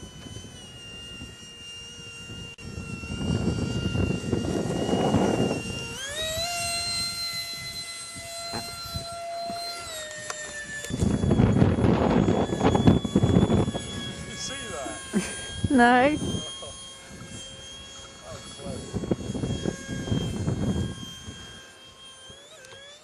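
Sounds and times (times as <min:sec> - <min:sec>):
model jet engine whine: 0:00.0 - 0:23.0.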